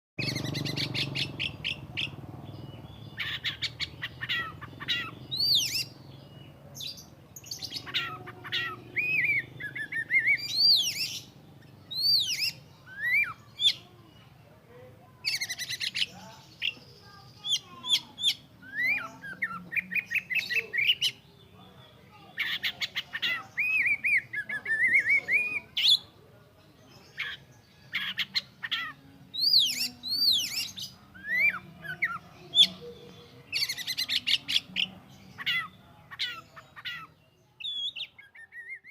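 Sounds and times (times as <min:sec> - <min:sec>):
bird singing varied song: 0:00.2 - 0:38.9.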